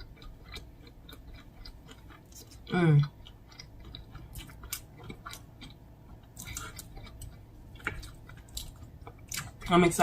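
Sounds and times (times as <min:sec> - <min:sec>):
person chewing crisp food: 0:00.0 - 0:10.0.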